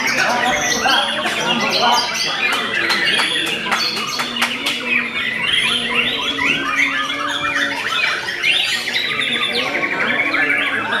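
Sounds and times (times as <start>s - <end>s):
bird singing varied song: 0.0s - 11.0s.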